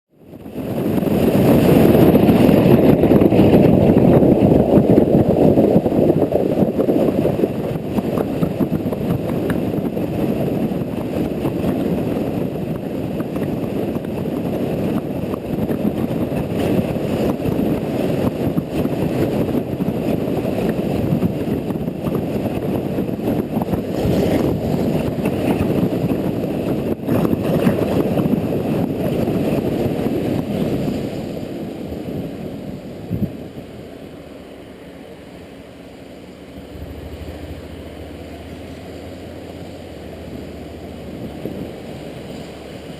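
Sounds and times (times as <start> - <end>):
motorcycle road noise: 0.1 - 42.9
rushing wind: 0.1 - 42.9
wind buffeting microphone: 0.1 - 42.9.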